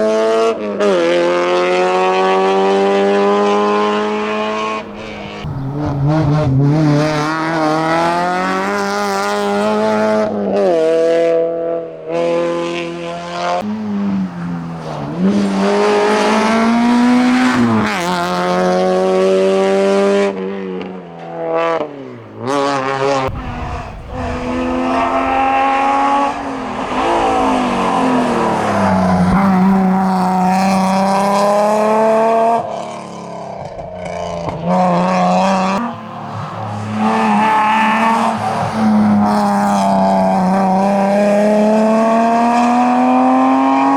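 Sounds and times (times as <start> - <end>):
racing car engine revving: 0.0 - 43.9.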